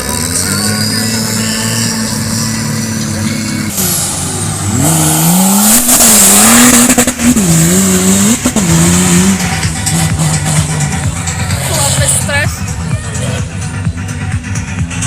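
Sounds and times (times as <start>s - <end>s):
engine revving hard: 0.0s - 12.4s.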